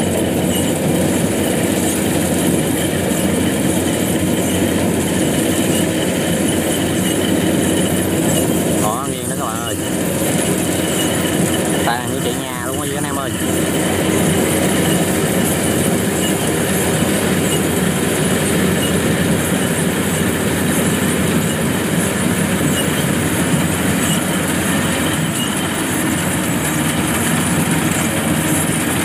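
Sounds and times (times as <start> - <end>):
combine harvester drone: 0.0 - 29.0.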